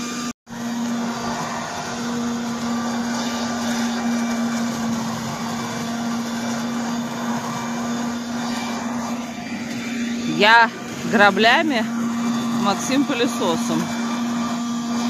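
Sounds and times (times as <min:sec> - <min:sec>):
leaf blower running: 0:00.0 - 0:15.0.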